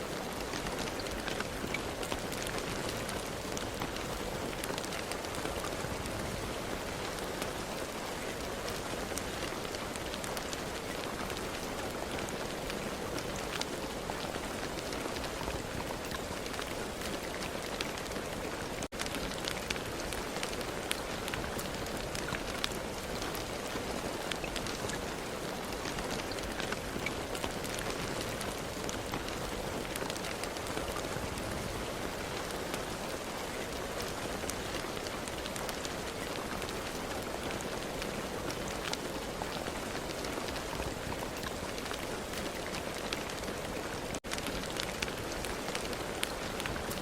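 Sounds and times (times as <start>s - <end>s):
steady rain with drop ticks: 0.0s - 47.0s.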